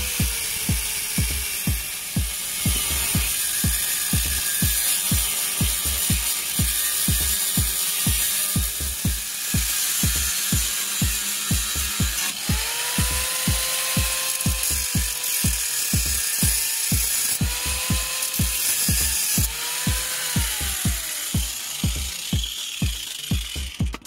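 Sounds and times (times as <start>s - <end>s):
angle grinder whining: 0.0s - 24.0s
background music with steady beat: 0.0s - 24.0s.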